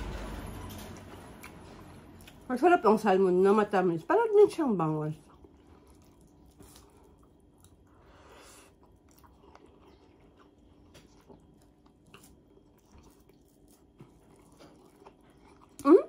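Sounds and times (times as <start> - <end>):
faint chewing: 0.6 - 3.0, 4.3 - 16.0.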